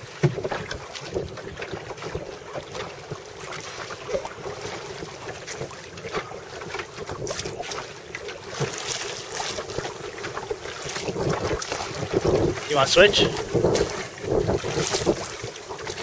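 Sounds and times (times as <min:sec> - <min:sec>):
water splashing around boat: 0:00.0 - 0:16.0
wind buffeting microphone: 0:00.0 - 0:16.0.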